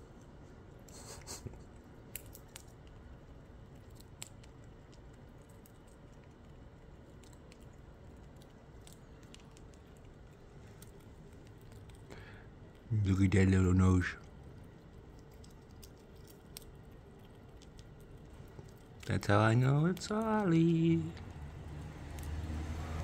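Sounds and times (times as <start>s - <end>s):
squirrel crunching seeds: 0.0s - 23.0s.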